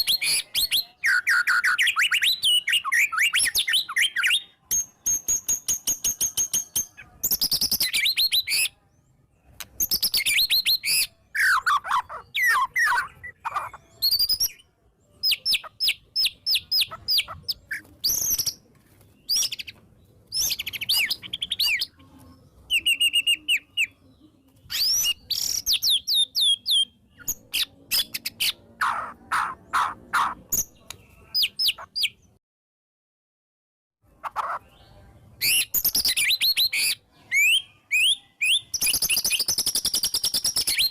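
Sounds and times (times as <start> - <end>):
songbird singing varied phrases: 0.0 - 32.4, 34.1 - 40.9.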